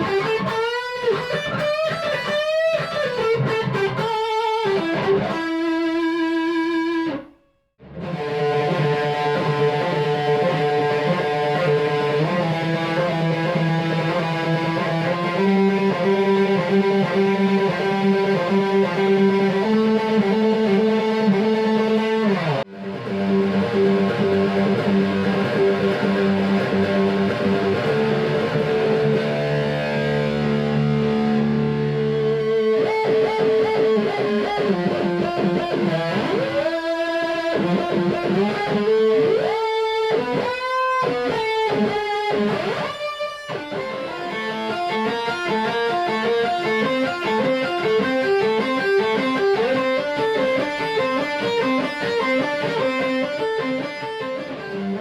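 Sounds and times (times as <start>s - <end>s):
distorted electric guitar: 0.0s - 55.0s.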